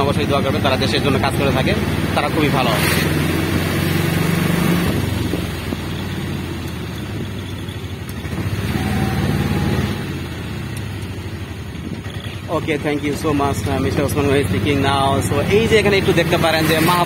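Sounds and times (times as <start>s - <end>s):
road noise: 0.0s - 17.0s
small vehicle engine: 0.0s - 17.0s.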